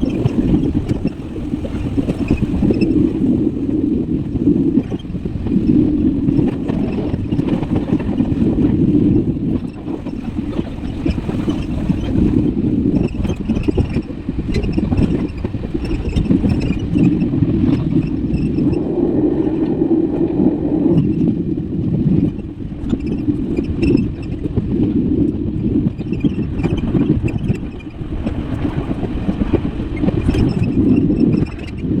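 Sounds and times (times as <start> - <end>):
road and wind rumble: 0.0 - 32.0.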